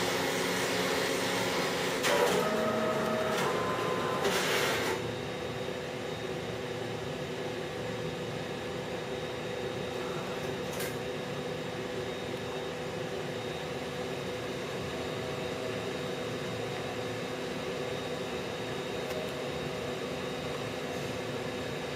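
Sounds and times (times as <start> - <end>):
machinery humming: 0.0 - 21.9.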